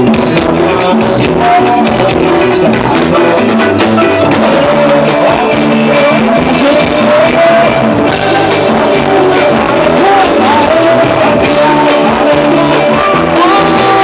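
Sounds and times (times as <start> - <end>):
drums and band instruments: 0.0 - 14.0.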